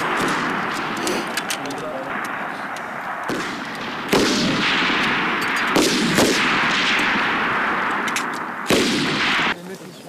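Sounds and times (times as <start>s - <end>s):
rolling gunfire echo: 0.0s - 9.8s.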